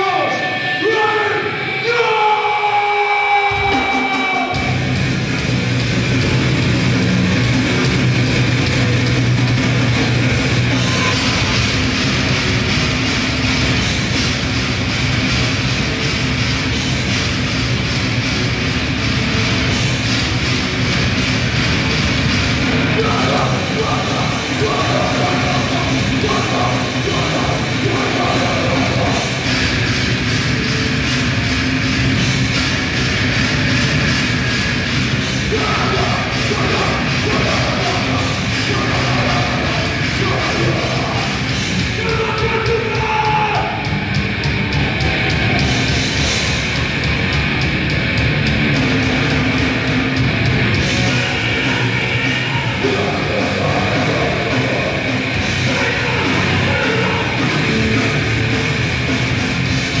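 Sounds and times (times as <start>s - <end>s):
distorted electric guitars: 0.0s - 60.0s
bass guitar: 3.4s - 60.0s
fast dense drumming: 3.4s - 60.0s.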